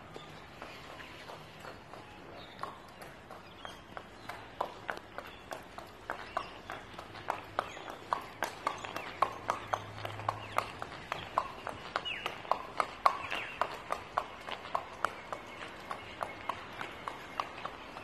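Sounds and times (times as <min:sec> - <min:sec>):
hooves on wet paving: 0:00.0 - 0:18.0.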